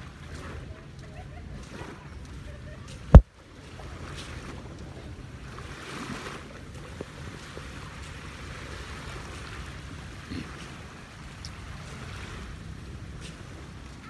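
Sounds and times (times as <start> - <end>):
small waves washing on sand: 0.0 - 14.0
wind rumbling on microphone: 0.0 - 14.0.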